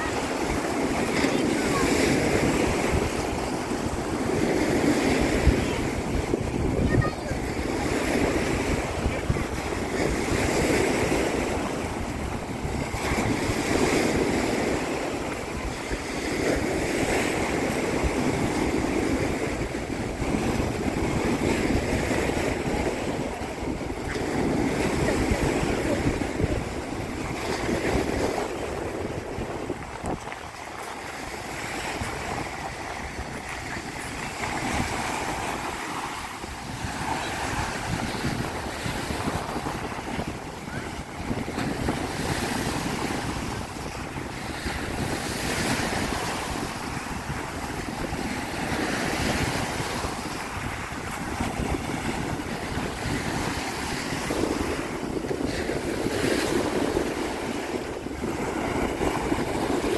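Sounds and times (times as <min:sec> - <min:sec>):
sea waves washing onto beach: 0:00.0 - 0:59.9
wind buffeting microphone: 0:00.0 - 0:59.9.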